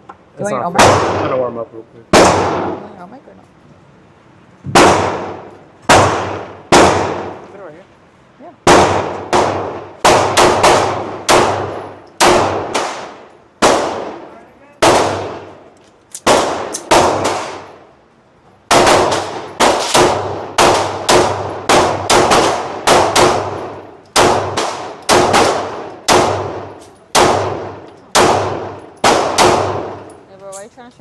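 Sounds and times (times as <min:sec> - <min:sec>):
gunshots echoing: 0:00.8 - 0:01.5, 0:02.1 - 0:02.9, 0:04.7 - 0:07.5, 0:08.6 - 0:17.9, 0:18.7 - 0:30.3.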